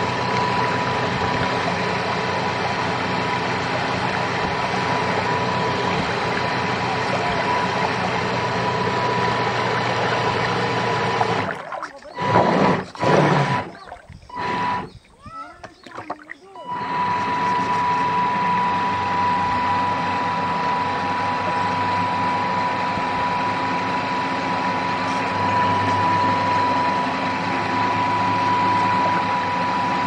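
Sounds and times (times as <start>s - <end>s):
motor humming with high whine: 0.0s - 30.0s.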